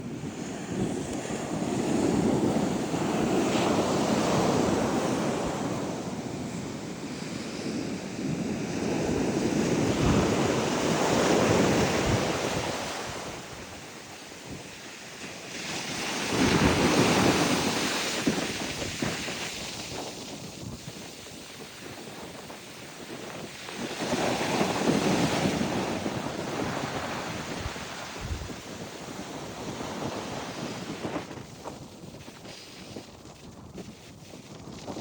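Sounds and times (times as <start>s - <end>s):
sea surf breaking on beach: 0.0s - 35.0s
wind buffeting microphone: 0.0s - 35.0s.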